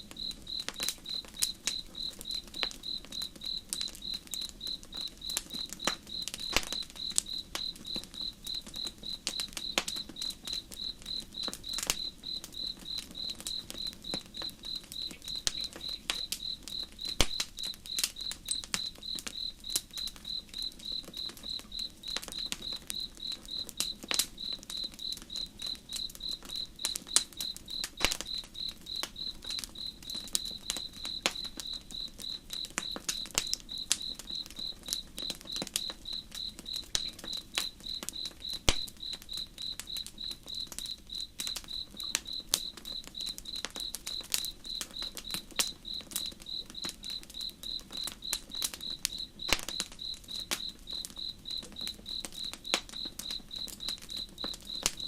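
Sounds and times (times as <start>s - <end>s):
campfire crackling and popping: 0.0s - 55.0s
insect chirping: 0.0s - 55.0s.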